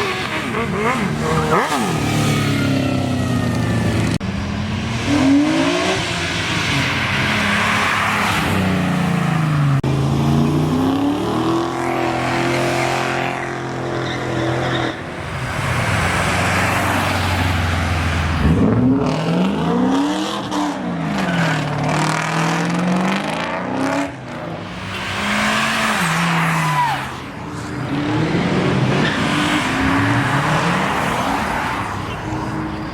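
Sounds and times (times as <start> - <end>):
car engines accelerating: 0.0 - 32.9.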